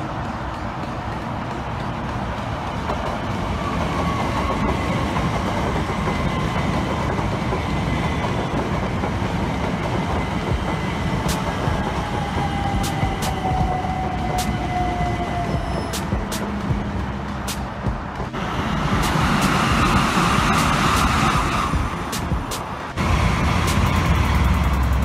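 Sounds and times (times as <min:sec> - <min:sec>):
sharp clicks: 0:00.0 - 0:25.0
train wheels rumbling on rail: 0:00.0 - 0:25.0.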